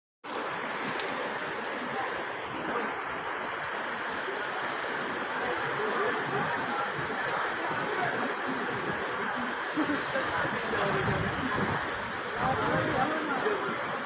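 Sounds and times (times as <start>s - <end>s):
heavy rain pouring: 0.2s - 14.0s.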